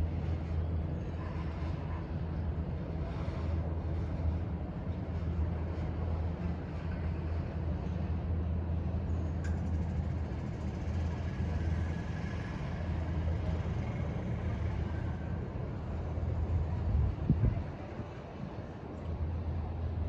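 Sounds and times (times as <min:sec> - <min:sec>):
gondola system humming: 0:00.0 - 0:20.0.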